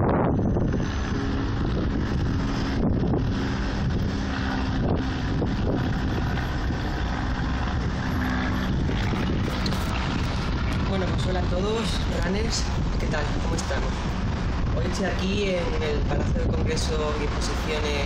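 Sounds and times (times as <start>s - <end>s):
road traffic rumble: 0.0s - 18.0s
wind buffeting microphone: 0.0s - 18.0s.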